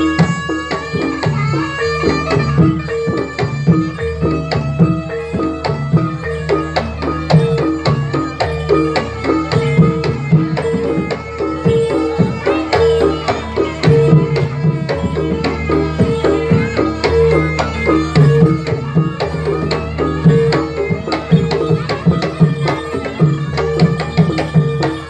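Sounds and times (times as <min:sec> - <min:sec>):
hand drum: 0:00.0 - 0:25.0.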